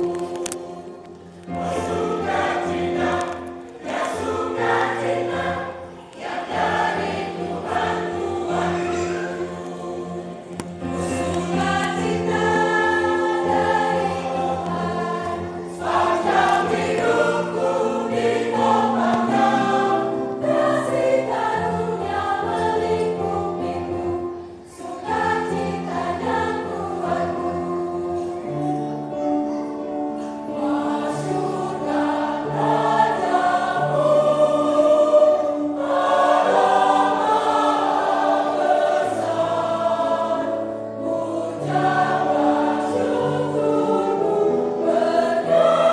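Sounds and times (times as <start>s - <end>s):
choir singing a hymn: 0.0s - 45.9s.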